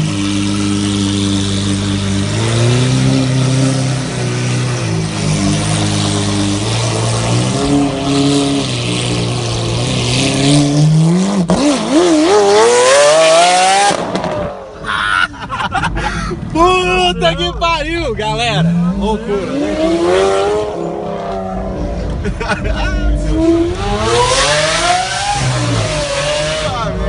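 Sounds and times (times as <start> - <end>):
sports car engine revving: 0.0 - 14.8, 18.1 - 27.0.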